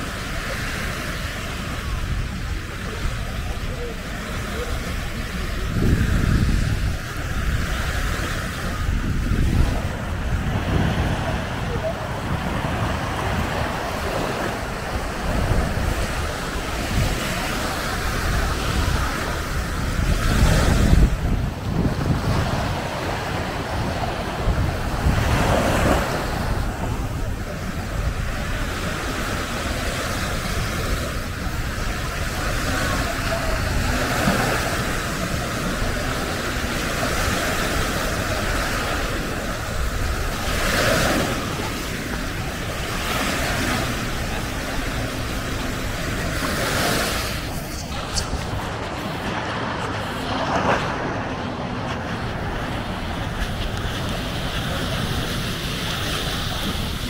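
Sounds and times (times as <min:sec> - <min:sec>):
sea waves washing onto beach: 0:00.0 - 0:57.0
wind rumble on microphone: 0:00.0 - 0:57.0.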